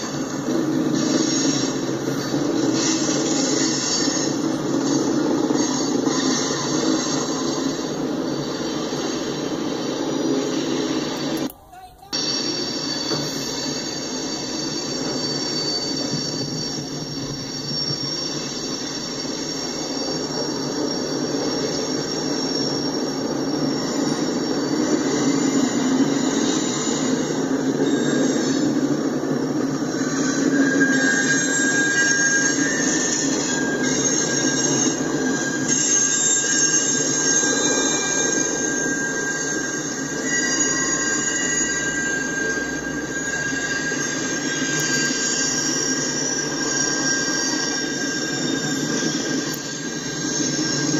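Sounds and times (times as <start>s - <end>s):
steel wheels squealing: 0.0s - 50.9s.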